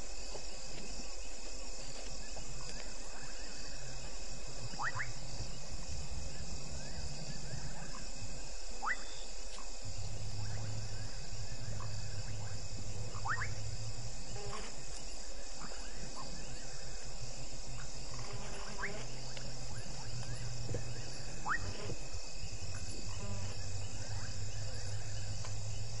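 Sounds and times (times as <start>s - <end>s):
crickets and insects trilling: 0.0s - 26.0s
low hum: 0.0s - 26.0s.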